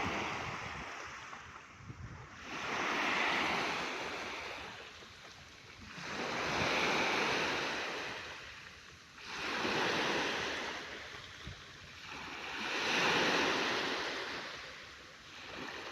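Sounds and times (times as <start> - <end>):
sea waves breaking: 0.0 - 15.9.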